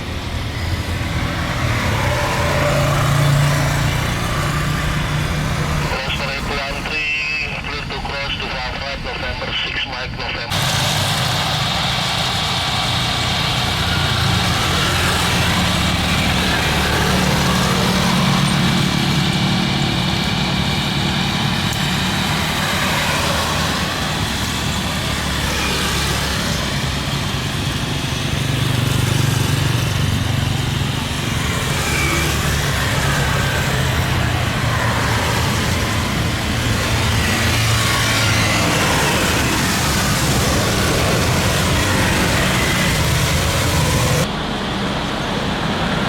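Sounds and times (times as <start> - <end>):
loud jet engine noise: 0.0 - 46.0.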